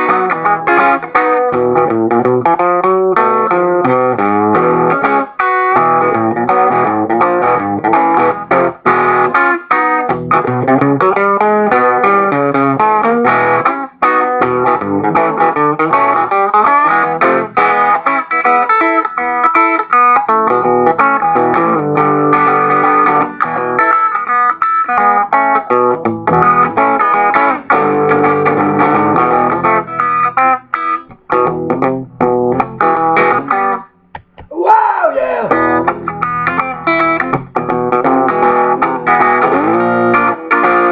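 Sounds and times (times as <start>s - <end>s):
electric guitar playing boogie blues: 0.0s - 34.0s, 35.4s - 40.9s.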